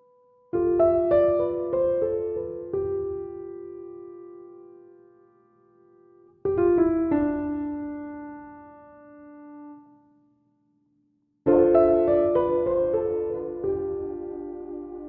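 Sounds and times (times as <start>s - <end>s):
soft piano music: 0.0s - 10.2s, 11.5s - 15.0s.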